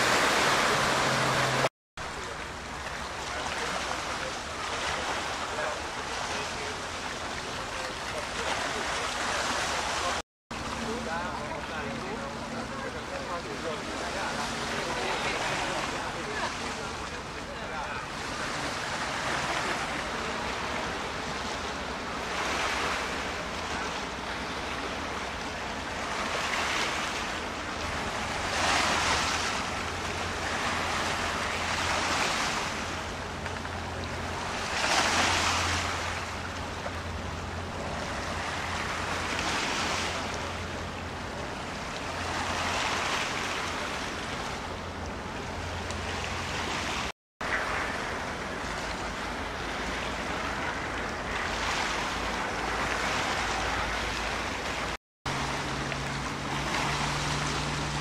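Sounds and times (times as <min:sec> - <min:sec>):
water washing: 0:00.0 - 0:58.0.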